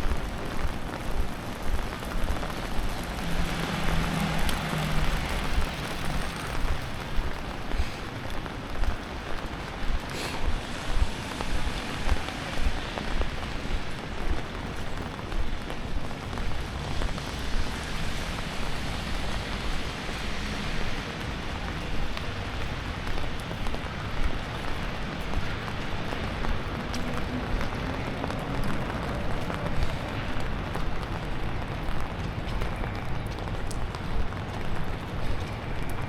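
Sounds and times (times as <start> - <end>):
steady rain on pavement: 0.0 - 36.0.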